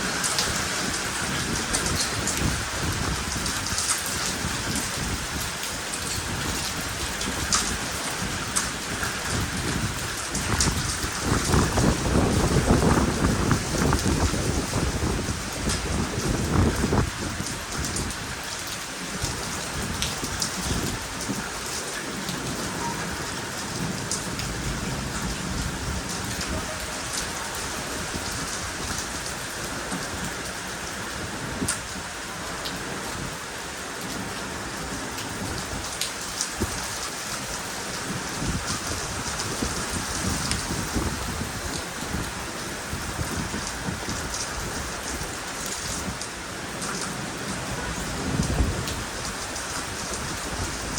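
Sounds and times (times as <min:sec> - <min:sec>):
heavy rain falling: 0:00.0 - 0:50.9
rain ticking on surfaces: 0:00.0 - 0:50.9.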